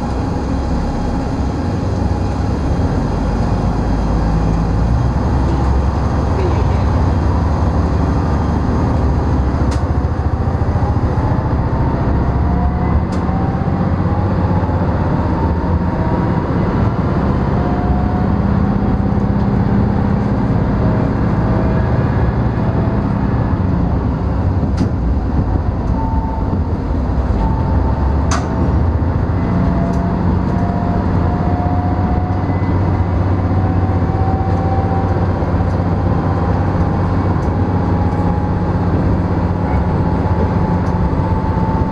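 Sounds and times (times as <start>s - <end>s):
railcar engine drone: 0.0s - 41.9s
rising whine: 0.0s - 41.9s.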